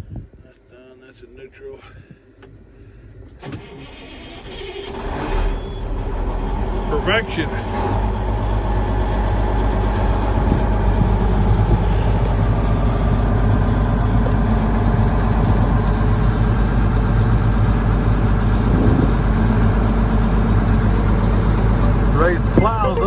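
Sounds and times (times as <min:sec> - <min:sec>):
tractor diesel engine running: 0:03.4 - 0:23.0.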